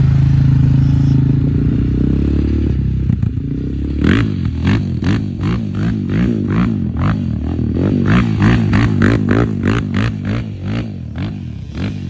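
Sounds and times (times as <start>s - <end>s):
atv engine surging: 0.0s - 12.0s.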